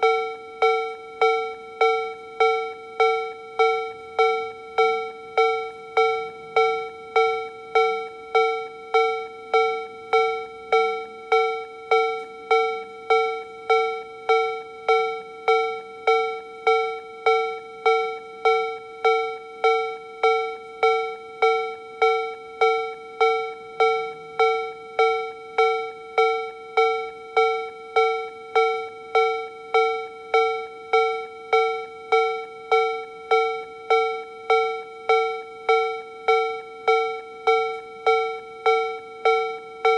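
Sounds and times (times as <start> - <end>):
electronic crossing alarm chime: 0.0 - 39.9.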